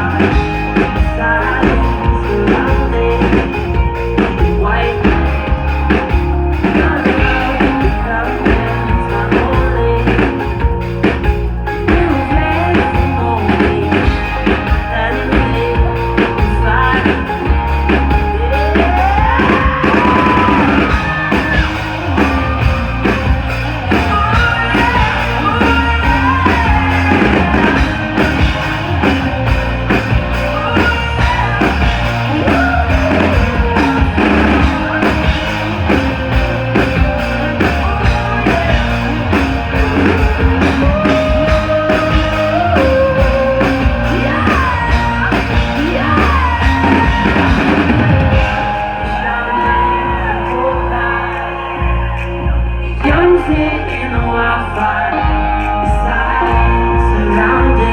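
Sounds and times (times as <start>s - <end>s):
live rock band: 0.0s - 57.9s
person singing: 0.0s - 57.9s.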